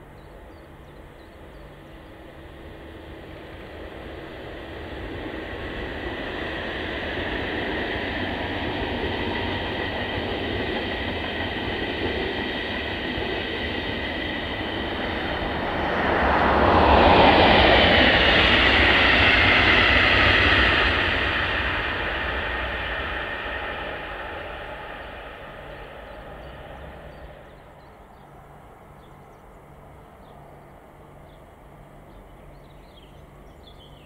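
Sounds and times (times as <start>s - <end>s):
electric trains passing: 0.0s - 34.0s.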